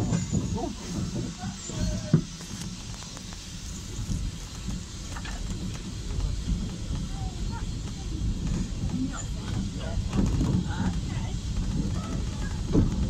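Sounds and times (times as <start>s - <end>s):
train car rumbling on track: 0.0s - 13.0s.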